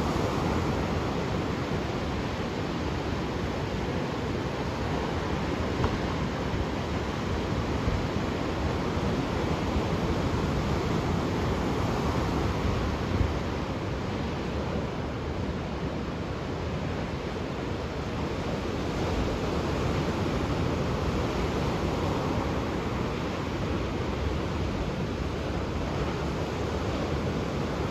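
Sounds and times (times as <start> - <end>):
ocean waves breaking on shore: 0.0 - 27.9.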